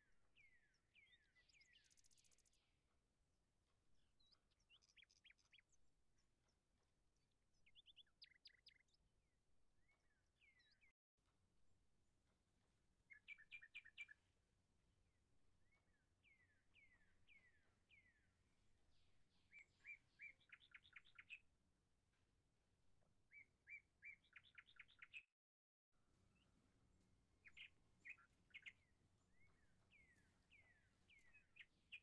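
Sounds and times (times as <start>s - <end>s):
faint birdsong: 0.0s - 10.9s, 12.2s - 25.3s, 26.0s - 32.0s.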